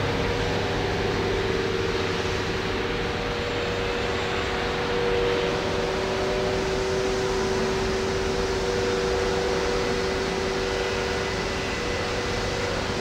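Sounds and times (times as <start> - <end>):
fan whirring hum: 0.0 - 13.0.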